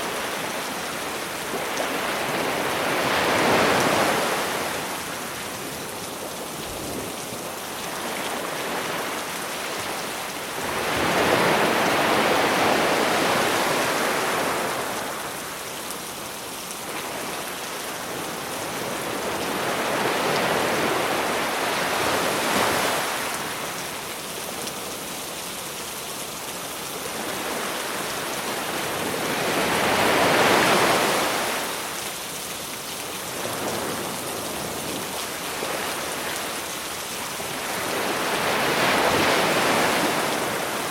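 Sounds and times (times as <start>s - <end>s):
sea waves breaking: 0.0s - 7.1s, 7.8s - 15.6s, 18.0s - 23.8s, 27.1s - 32.0s, 33.4s - 40.9s.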